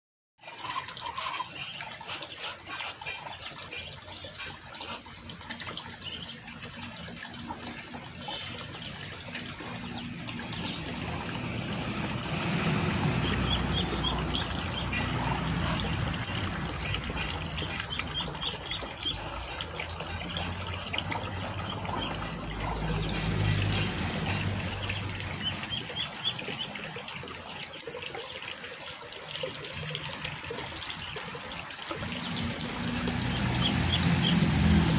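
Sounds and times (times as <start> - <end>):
water trickling over concrete: 0.4 - 34.9.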